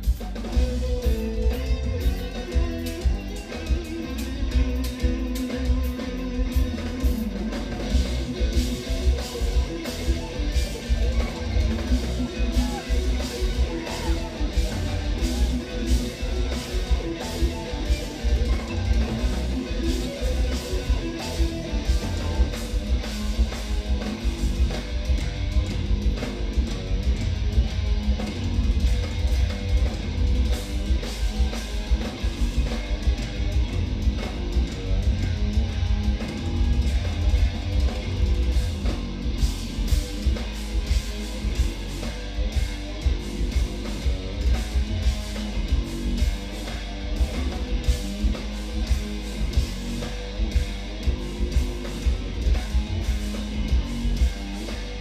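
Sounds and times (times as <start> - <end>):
electric guitars: 0.0 - 55.0.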